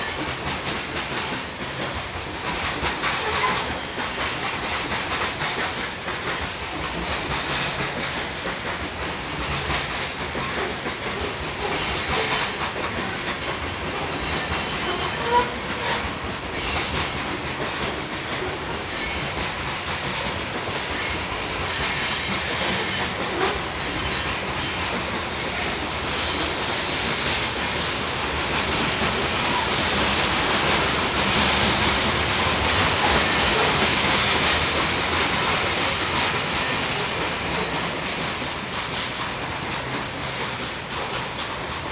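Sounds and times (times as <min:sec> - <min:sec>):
train wheels clattering over rail joints: 0:00.0 - 0:41.9.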